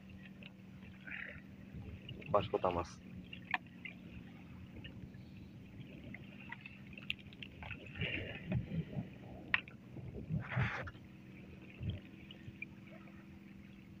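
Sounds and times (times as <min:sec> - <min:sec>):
water lapping hull: 0:00.0 - 0:14.0.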